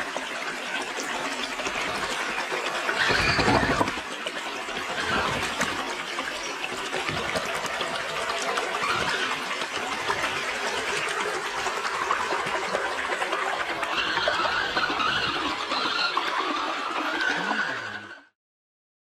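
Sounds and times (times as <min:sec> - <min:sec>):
water splashing over waterfall: 0:00.0 - 0:18.1.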